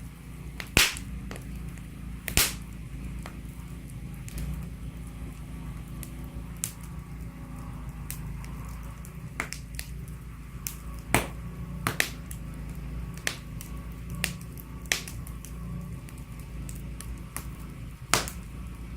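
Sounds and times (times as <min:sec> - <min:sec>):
steady low rumble: 0:00.0 - 0:18.9
wood fire crackling: 0:00.0 - 0:18.9.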